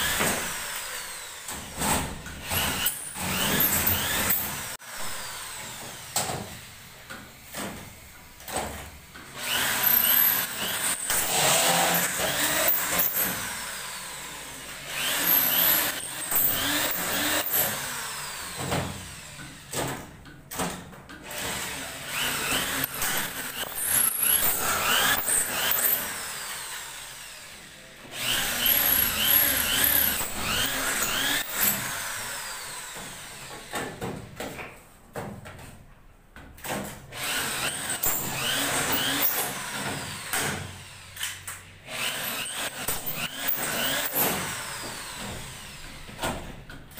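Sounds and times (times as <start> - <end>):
electric drill driving screws: 0.0 - 6.7, 8.5 - 20.0, 21.2 - 34.1, 37.1 - 46.3.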